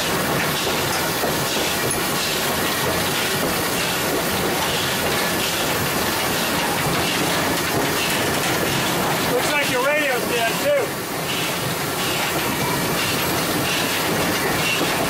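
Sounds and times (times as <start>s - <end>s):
steam locomotive running: 0.0s - 15.0s.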